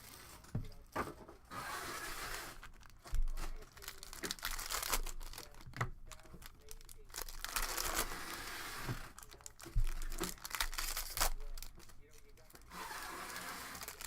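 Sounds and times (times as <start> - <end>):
plastic packaging crinkling: 2.2 - 14.0.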